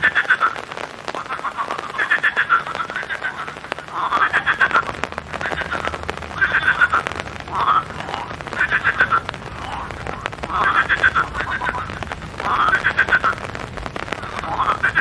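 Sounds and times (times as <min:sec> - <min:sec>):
frogs croaking: 0:00.0 - 0:15.0
raindrops pattering: 0:00.0 - 0:15.0.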